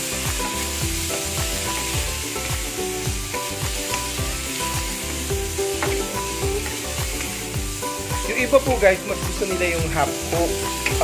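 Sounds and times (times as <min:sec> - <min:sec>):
food sizzling in a wok: 0:00.0 - 0:11.0
music with steady beat: 0:00.0 - 0:11.0.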